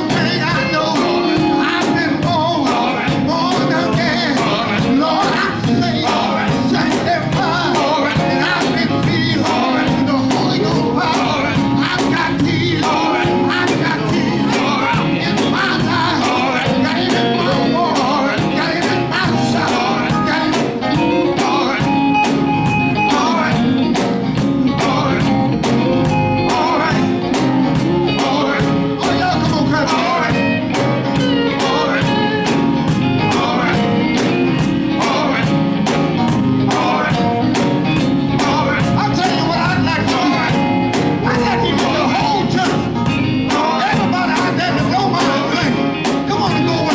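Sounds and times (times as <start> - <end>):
band playing: 0.0 - 46.9
gospel voices singing: 0.0 - 46.9
steady drum beat: 0.0 - 46.9.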